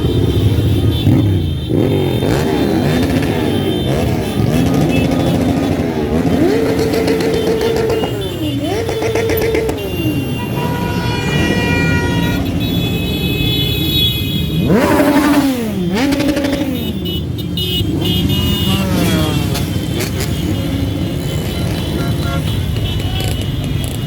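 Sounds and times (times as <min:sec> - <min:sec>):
horn tone: 0:00.0 - 0:24.0
motorcycles passing and revving: 0:00.0 - 0:24.0.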